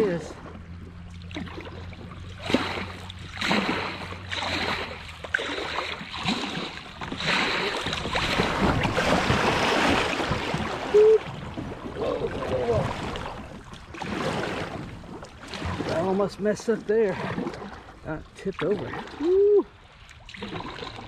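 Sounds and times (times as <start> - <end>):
water rushing and splashing: 0.0 - 21.0.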